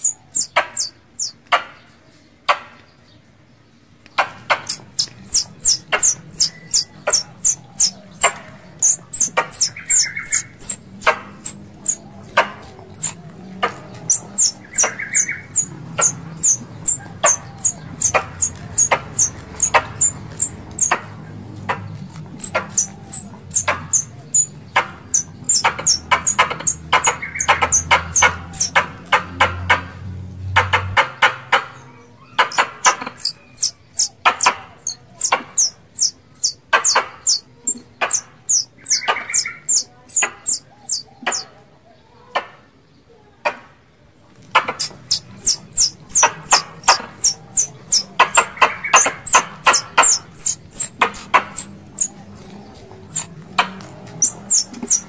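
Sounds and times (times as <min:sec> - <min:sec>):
squirrels chattering: 0:00.0 - 0:01.8, 0:04.1 - 0:42.5, 0:44.3 - 0:55.0.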